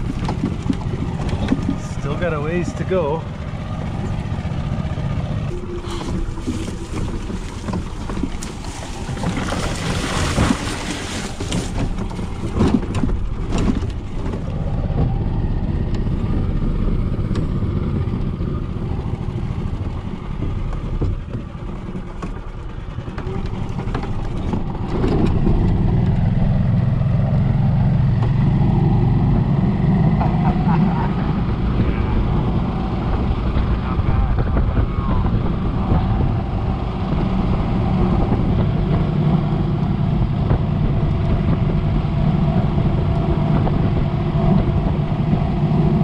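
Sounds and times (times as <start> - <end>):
golf cart motor hum: 0.0 - 46.0.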